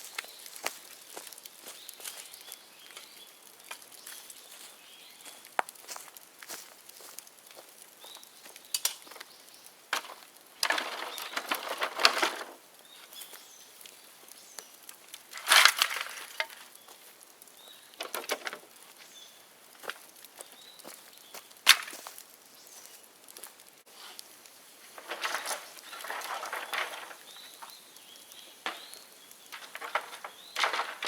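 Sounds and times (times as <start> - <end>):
dry bamboo crackling and snapping: 0.0 - 31.0.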